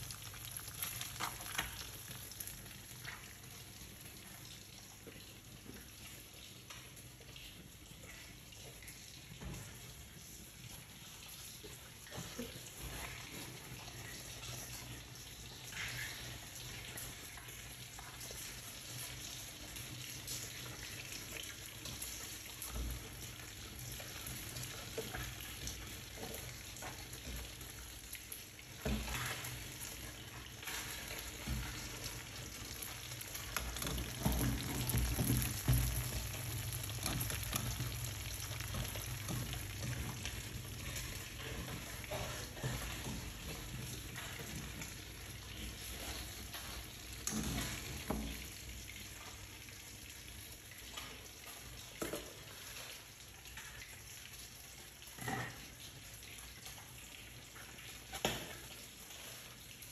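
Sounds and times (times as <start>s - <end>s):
food frying: 0.0s - 59.9s.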